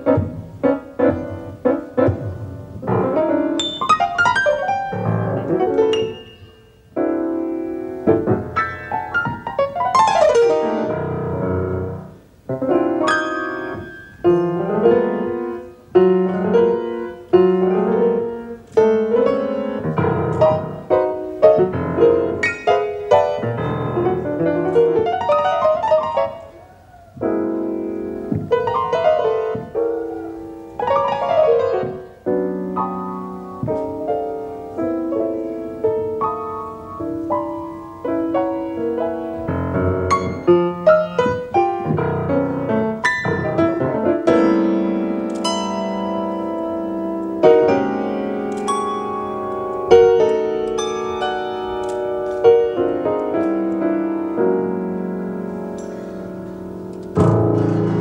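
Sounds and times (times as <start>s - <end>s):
free jazz piano: 0.0s - 58.0s.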